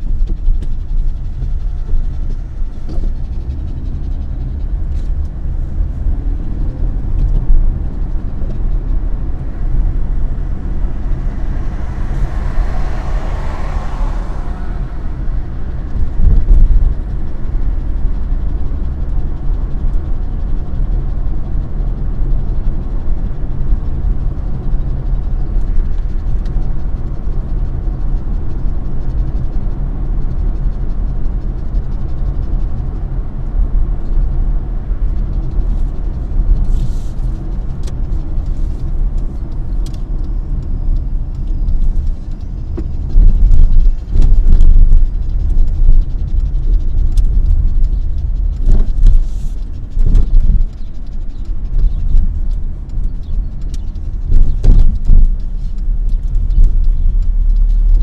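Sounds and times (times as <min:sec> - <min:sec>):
engine and road rumble: 0:00.0 - 0:58.0
low bumps and surges: 0:00.0 - 0:58.0.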